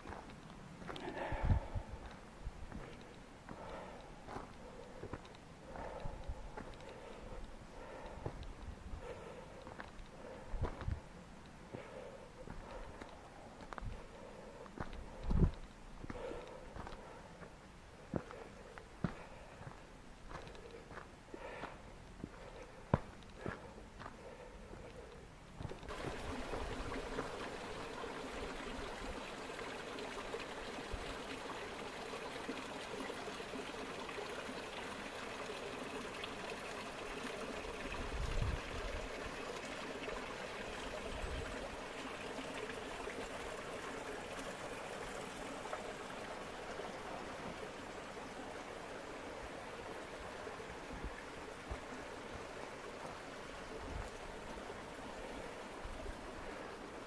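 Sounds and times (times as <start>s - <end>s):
stream trickling over boulders: 0.0s - 57.0s.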